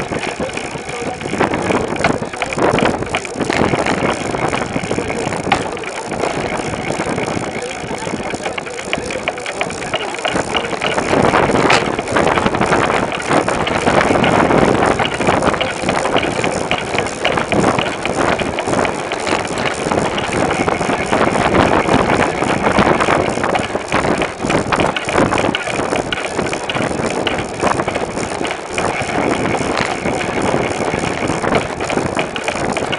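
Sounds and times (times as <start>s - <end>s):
bike knocks and rattles: 0.0s - 32.9s
tyres rumbling on pavement: 0.0s - 32.9s
wind on microphone: 0.0s - 32.9s.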